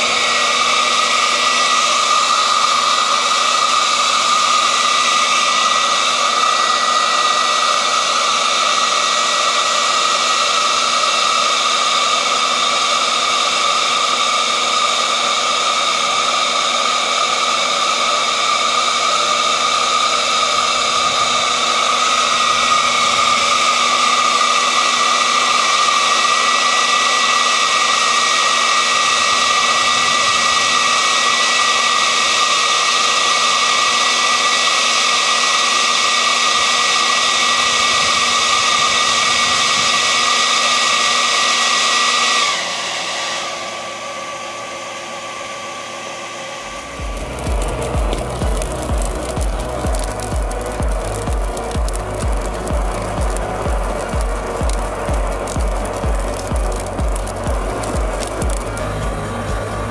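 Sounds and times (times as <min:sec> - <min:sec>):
water spray hiss: 0:00.0 - 0:43.0, 0:46.6 - 0:59.9
small electric pump whining: 0:00.0 - 0:59.9.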